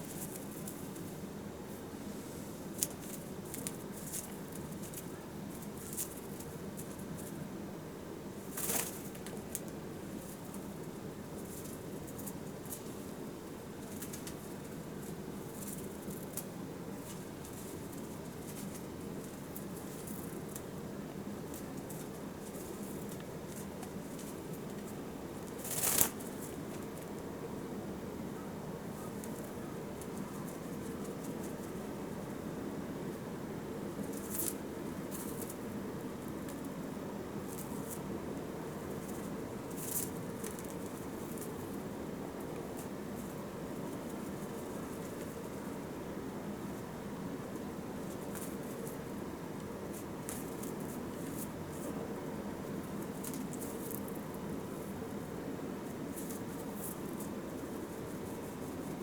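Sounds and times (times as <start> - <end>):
beak clicks and feather rustles: 0.0 - 7.4, 8.4 - 27.4, 28.8 - 59.0
steady background noise: 0.0 - 59.0.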